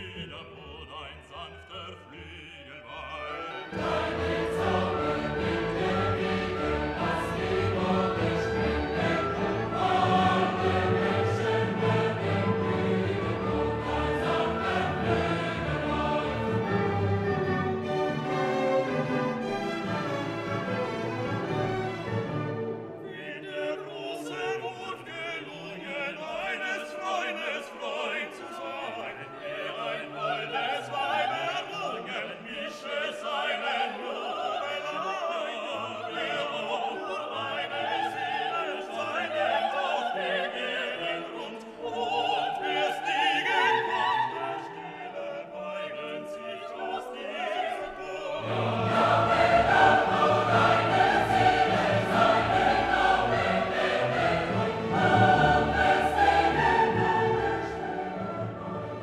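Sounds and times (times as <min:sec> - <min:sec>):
choir singing: 0:00.0 - 0:59.0
operatic singing: 0:00.0 - 0:59.0
orchestra: 0:00.0 - 0:59.0.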